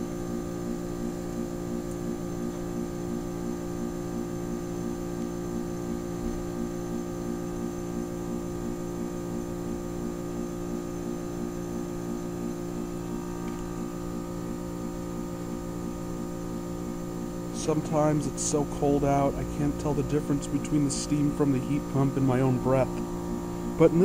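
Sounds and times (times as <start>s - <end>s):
heat pump compressor humming: 0.0s - 24.0s.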